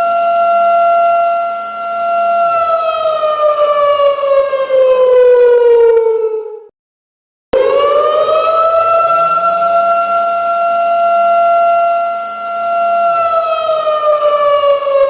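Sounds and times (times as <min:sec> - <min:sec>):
siren wailing: 0:00.0 - 0:06.7, 0:07.6 - 0:15.0.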